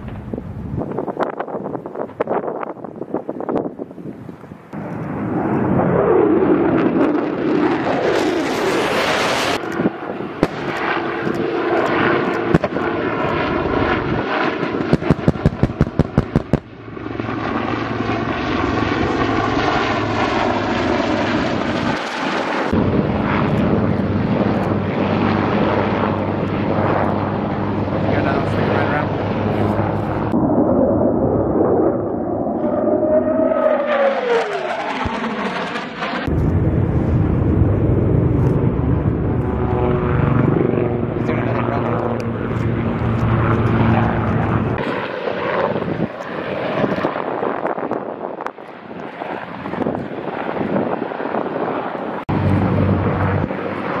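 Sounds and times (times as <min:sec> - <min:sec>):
helicopter turbine hum: 0:00.0 - 0:54.0
jet roaring overhead: 0:00.0 - 0:54.0.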